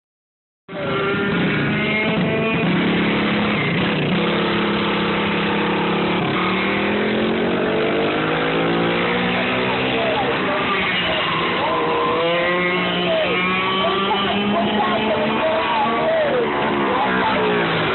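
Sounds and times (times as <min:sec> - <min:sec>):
race car engine revving: 0:00.7 - 0:17.9.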